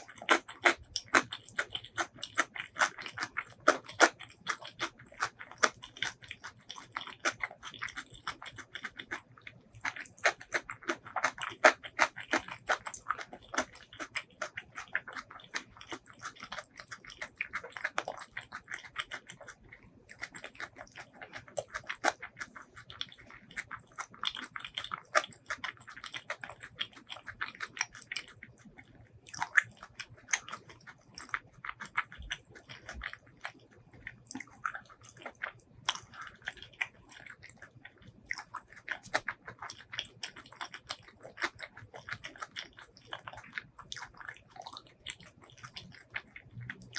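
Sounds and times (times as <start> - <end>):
chewing with mouth clicks: 0.0 - 46.9.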